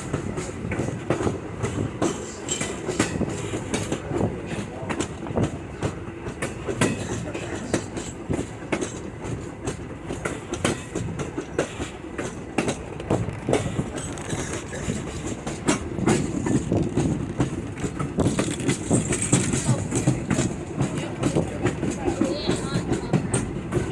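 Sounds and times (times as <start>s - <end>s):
train car rumbling on track: 0.0s - 23.9s
wheels clicking over rail joints: 0.0s - 23.9s.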